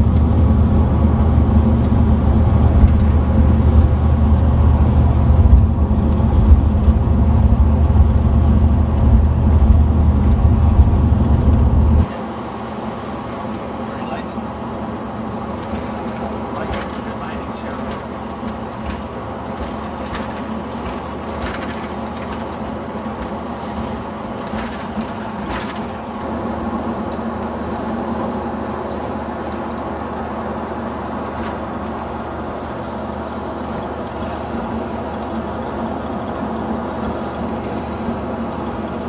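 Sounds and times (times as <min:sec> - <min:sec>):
vehicle engine hum and road noise: 0:00.0 - 0:39.0.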